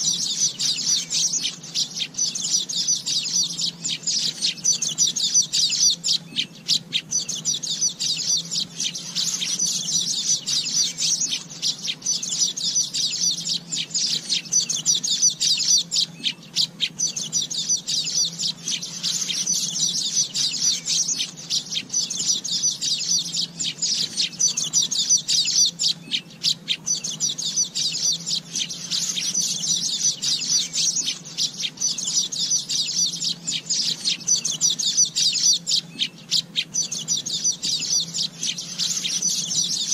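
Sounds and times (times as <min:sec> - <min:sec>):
weaver birds chattering: 0:00.0 - 0:39.9.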